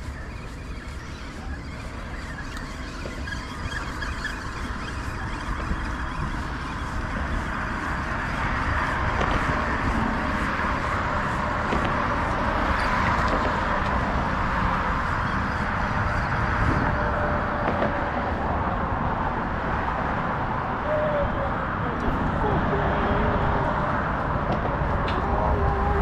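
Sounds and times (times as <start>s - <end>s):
road traffic rushing: 0.0s - 26.0s.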